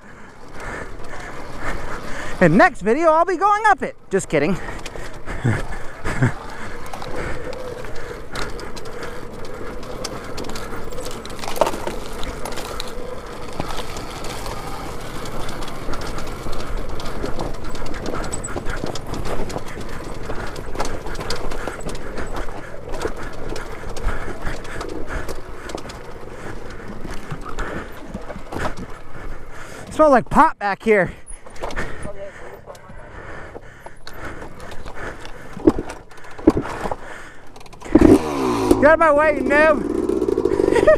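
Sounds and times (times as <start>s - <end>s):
dirt bike rattling over rocks: 0.0s - 40.9s.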